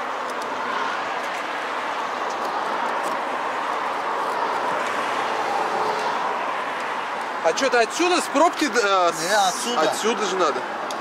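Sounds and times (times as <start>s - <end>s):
highway traffic passing: 0.0s - 11.0s.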